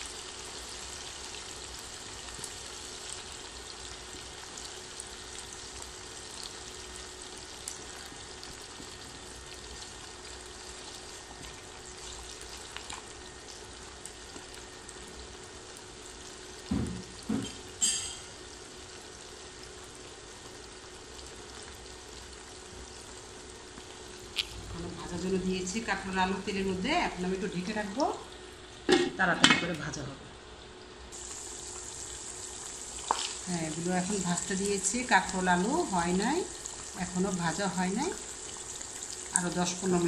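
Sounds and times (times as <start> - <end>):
vegetables sizzling in hot oil: 0.0 - 40.0.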